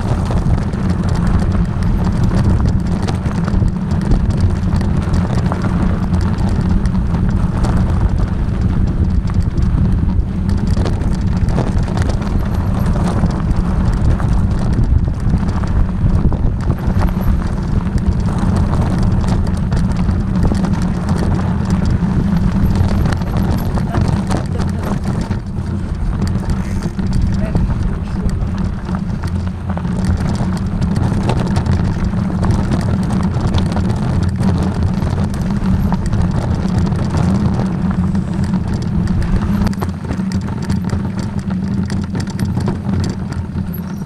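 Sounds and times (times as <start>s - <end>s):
rattling and knocking: 0.0s - 44.0s
vehicle rumble on rough ground: 0.0s - 44.0s.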